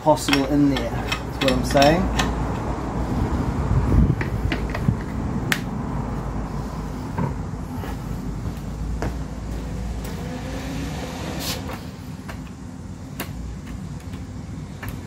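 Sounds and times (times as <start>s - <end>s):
steady low rumble: 0.6s - 15.0s.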